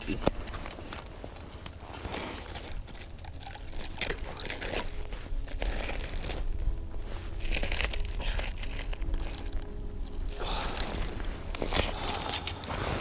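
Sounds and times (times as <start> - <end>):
slush and ice crunching: 0.8 - 13.0.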